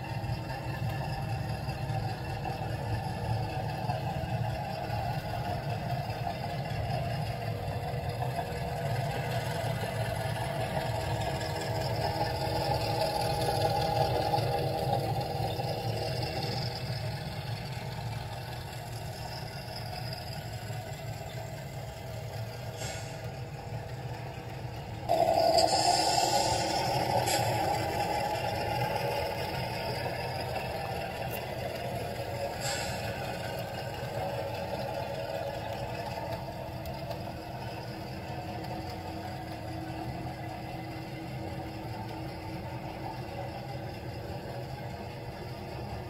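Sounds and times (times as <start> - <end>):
model train rolling rumble: 0.0 - 46.0.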